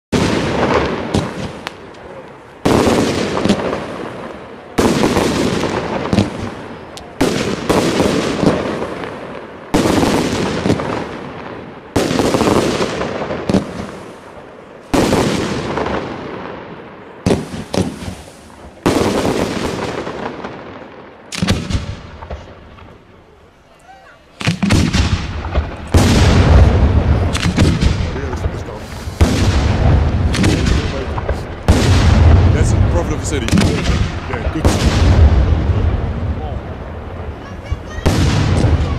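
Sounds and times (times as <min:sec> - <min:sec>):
fireworks bursting with loud bangs: 0:00.1 - 0:38.9
rolling echo: 0:00.1 - 0:38.9.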